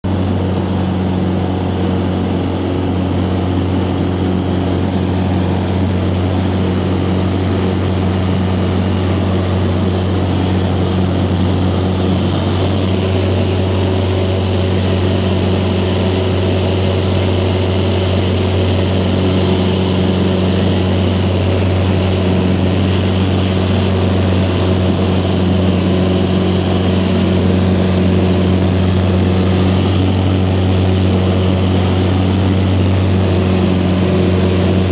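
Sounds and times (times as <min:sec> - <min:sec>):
propeller aircraft droning: 0:00.0 - 0:34.9.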